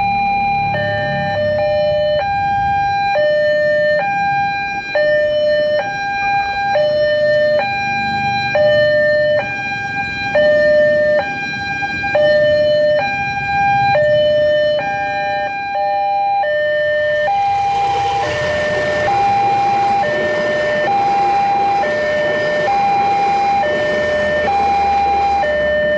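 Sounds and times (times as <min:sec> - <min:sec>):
level crossing two-tone alarm: 0:00.0 - 0:25.9.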